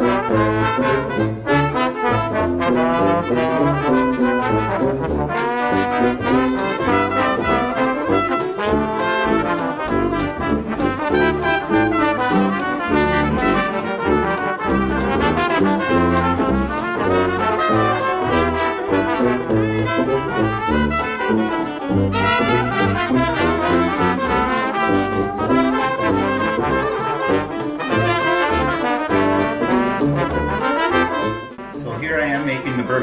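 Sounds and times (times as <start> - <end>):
walking bass line: 0.0 - 32.0
trombone: 0.0 - 33.0
trumpet: 0.0 - 33.0.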